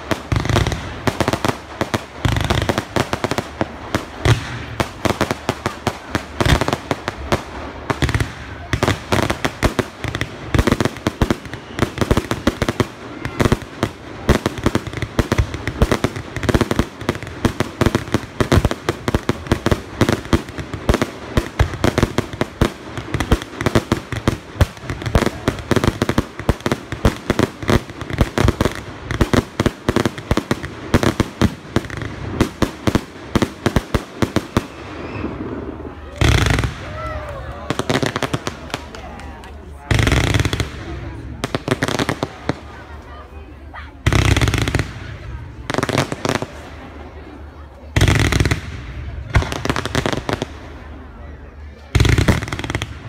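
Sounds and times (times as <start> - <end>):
fireworks banging: 0.0 - 43.0, 44.0 - 51.0.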